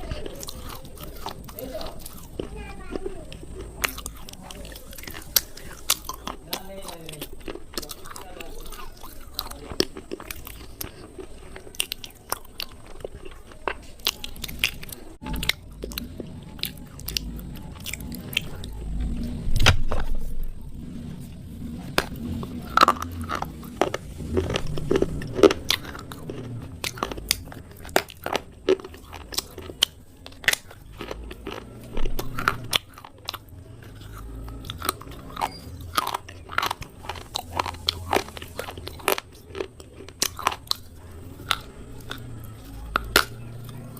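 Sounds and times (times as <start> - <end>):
chewing: 0.0 - 43.9
crunching and snapping: 0.0 - 43.9.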